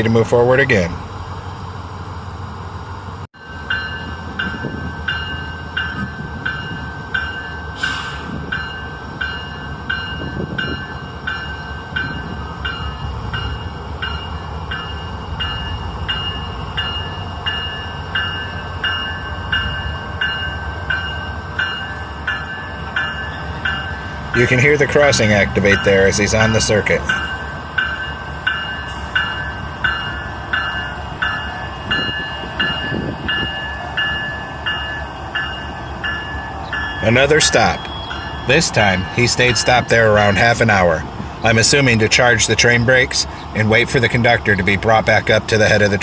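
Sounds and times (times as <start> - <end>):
train rumbling: 0.0 - 46.0
crossing bell ringing: 3.4 - 46.0.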